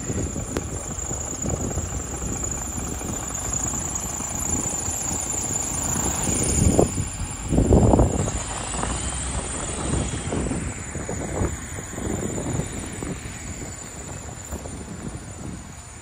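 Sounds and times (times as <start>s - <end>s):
traffic rumbling on snowy road: 0.0s - 16.0s
wind gusting on microphone: 0.0s - 16.0s.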